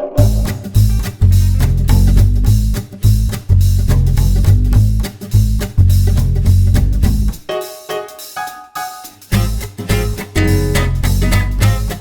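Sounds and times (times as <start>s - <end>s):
swing jazz music: 0.2s - 12.0s.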